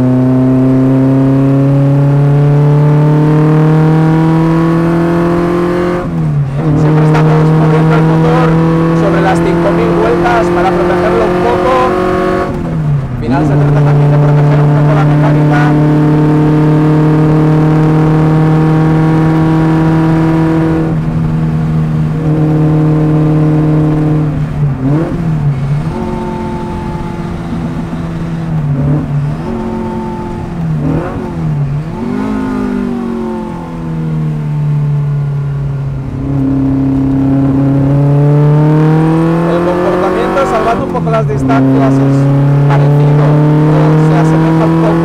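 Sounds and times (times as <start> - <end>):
car engine revving hard: 0.0 - 45.0.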